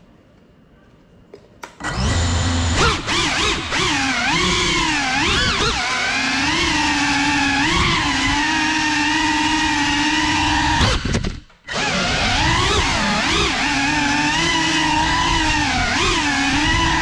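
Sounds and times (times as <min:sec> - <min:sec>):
drone motors whining: 0:01.8 - 0:17.0.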